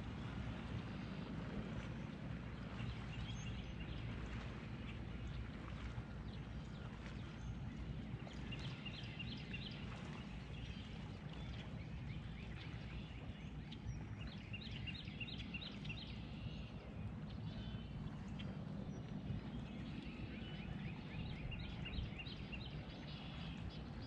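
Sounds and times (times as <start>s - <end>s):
songbird singing: 0.0s - 24.0s
steady low rumble: 0.0s - 24.0s.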